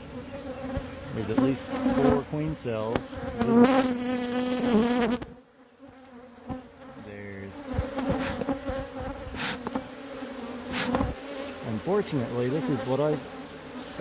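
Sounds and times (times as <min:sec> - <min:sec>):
bee buzzing close: 0:00.0 - 0:14.0
honey bees buzzing: 0:00.0 - 0:14.0.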